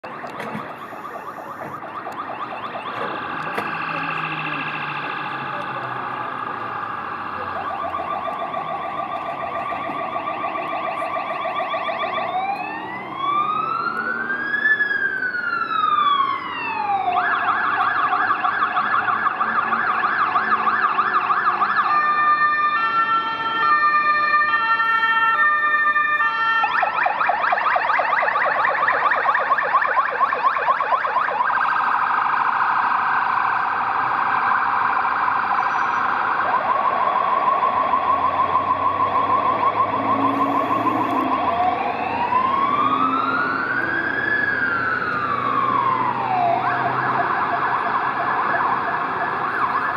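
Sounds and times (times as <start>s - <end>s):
ambulance siren: 0.0s - 49.9s.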